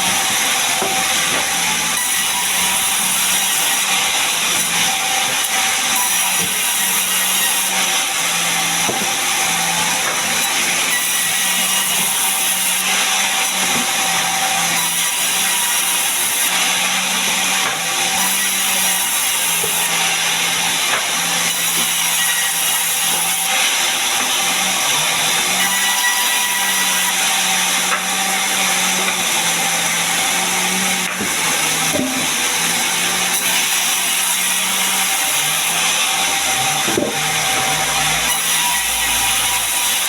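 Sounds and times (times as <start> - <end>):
saw blade rasping through wood: 0.0 - 40.0.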